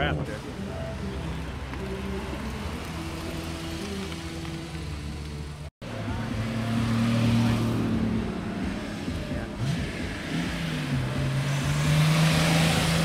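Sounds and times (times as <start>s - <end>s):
sports car engine passing: 0.0s - 13.0s
car engine droning past: 0.7s - 13.0s.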